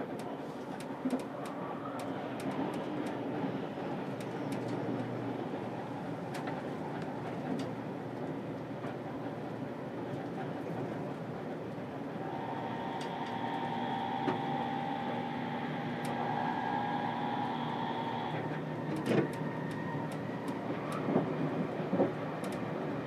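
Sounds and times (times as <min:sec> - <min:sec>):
train interior rolling rumble: 0:00.0 - 0:23.0
train whine: 0:00.0 - 0:23.0.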